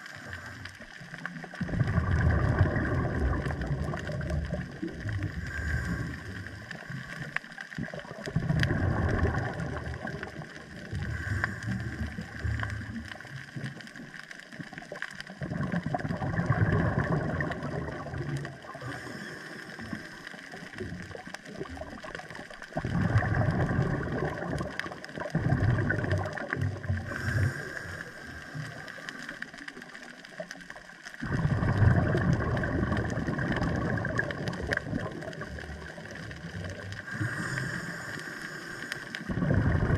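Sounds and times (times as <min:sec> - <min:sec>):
scuba regulator bubbles gurgling: 0:00.0 - 0:39.9
steady watery background: 0:00.0 - 0:39.9.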